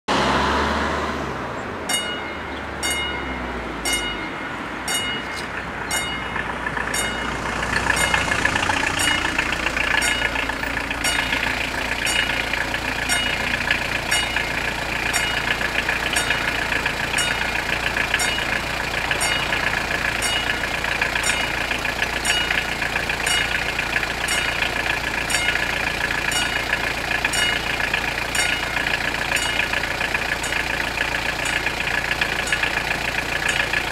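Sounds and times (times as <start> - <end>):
car engine idling: 1.6 - 33.9
level-crossing warning bells: 1.8 - 33.9
denser bell ringing: 1.9 - 33.8.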